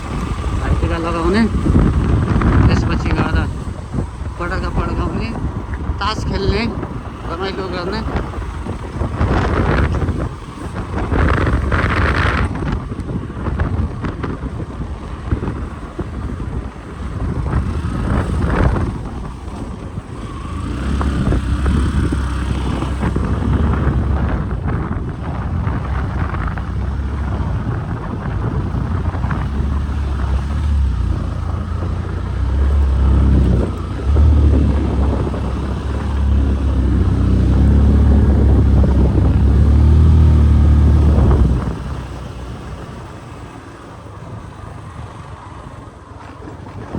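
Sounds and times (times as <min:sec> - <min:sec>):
road noise: 0:00.0 - 0:46.9
vehicle engine rumble: 0:00.0 - 0:46.9
wind on microphone: 0:00.0 - 0:46.9.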